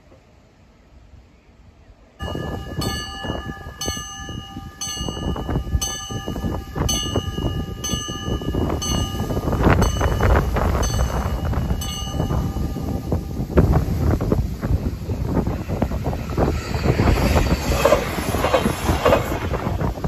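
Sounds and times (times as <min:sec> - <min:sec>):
train rumble: 0:00.0 - 0:20.0
level crossing warning bell: 0:02.2 - 0:19.8.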